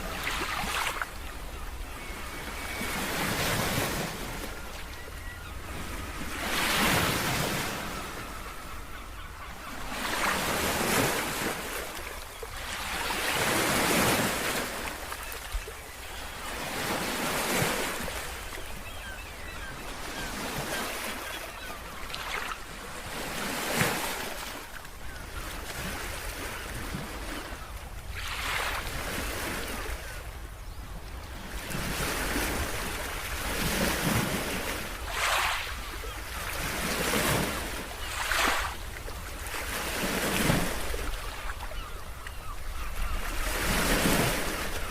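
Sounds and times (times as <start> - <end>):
ocean waves breaking: 0.0 - 8.9, 9.6 - 30.2, 31.4 - 44.9.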